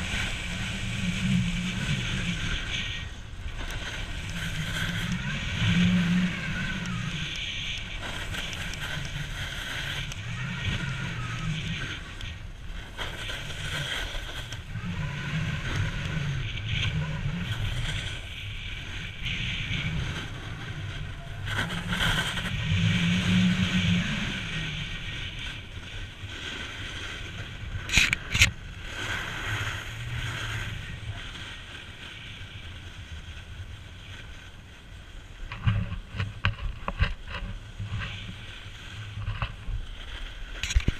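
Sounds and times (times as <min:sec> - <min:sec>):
snowboard scraping on snow: 0:00.0 - 0:40.9
wind rumble on microphone: 0:00.0 - 0:40.9.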